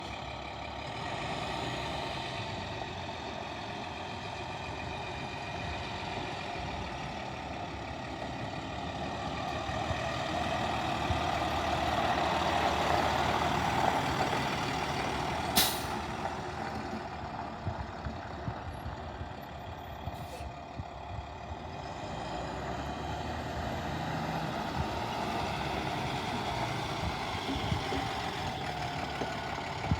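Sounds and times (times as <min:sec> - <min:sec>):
diesel truck engine running: 0:00.0 - 0:29.9.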